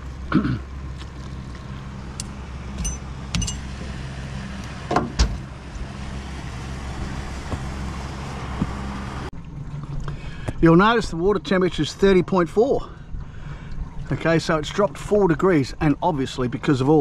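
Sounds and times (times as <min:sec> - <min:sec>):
outboard motor humming: 0:00.0 - 0:16.3.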